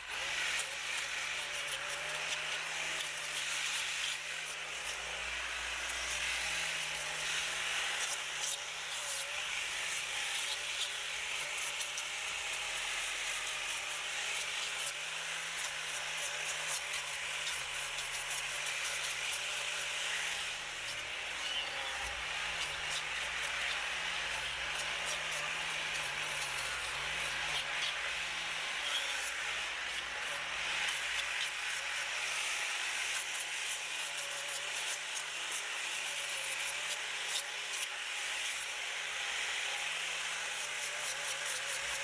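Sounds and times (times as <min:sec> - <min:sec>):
angle grinder sanding wood: 0:00.0 - 0:42.0.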